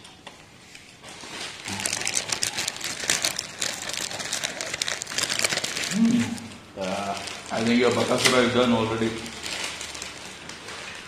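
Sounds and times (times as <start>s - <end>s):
rice wafers crackling when crushed: 1.1s - 11.0s.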